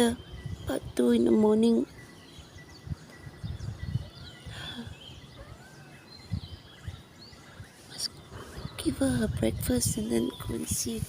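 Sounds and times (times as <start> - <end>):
wild birds chirping: 0.0 - 11.0.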